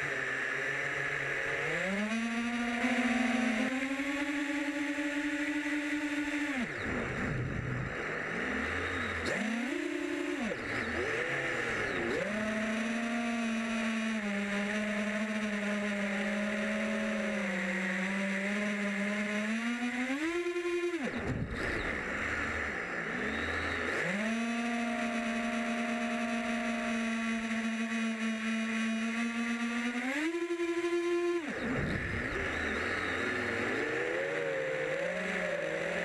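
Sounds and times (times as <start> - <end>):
quadcopter propellers whining: 0.0 - 36.0.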